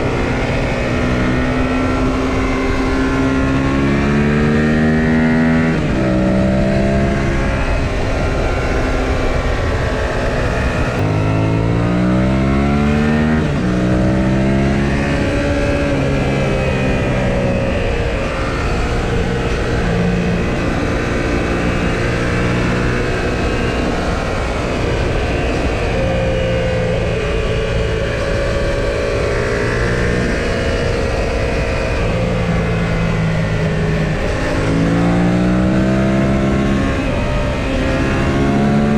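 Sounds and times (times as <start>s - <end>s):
motorcycle engine revving: 0.0s - 38.9s
wind rush: 0.0s - 38.9s.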